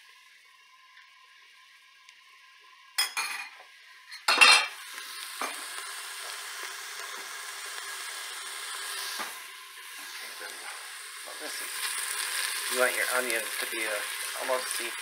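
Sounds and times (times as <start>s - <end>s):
onions sizzling: 0.0s - 15.0s.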